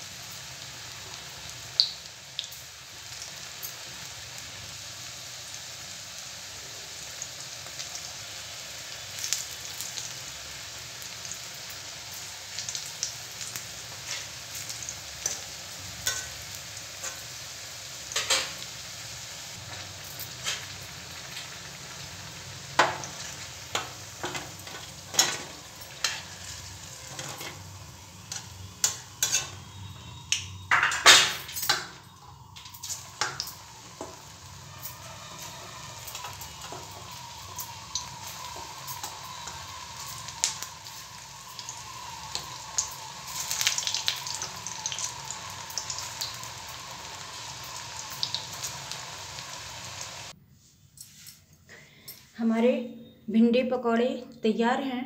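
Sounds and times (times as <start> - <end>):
pakoras deep-frying in hot oil: 0.0 - 50.4.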